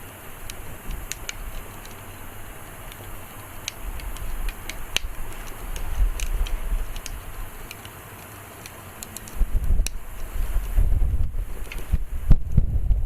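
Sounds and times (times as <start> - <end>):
bonfire crackling and popping: 0.1 - 12.0
wind rumbling on microphone: 0.3 - 7.7, 9.3 - 13.0.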